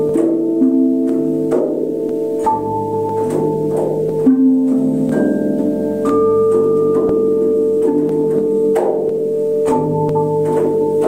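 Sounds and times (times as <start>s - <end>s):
bells and singing bowls ringing: 0.0s - 11.0s.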